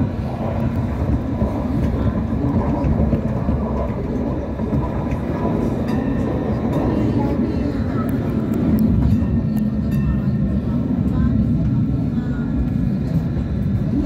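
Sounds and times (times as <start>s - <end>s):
rumble of train wheels on track: 0.0s - 14.0s.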